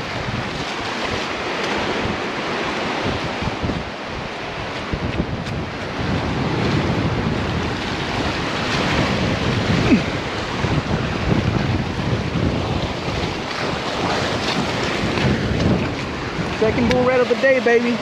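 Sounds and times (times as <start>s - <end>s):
waves breaking in surf: 0.0s - 18.0s
wind buffeting microphone: 0.0s - 18.0s.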